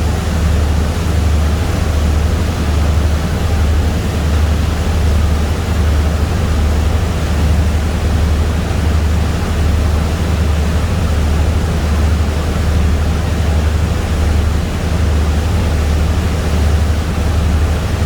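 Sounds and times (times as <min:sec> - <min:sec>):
boat engine rumble: 0:00.0 - 0:18.0
rushing water: 0:00.0 - 0:18.0
wind: 0:00.0 - 0:18.0.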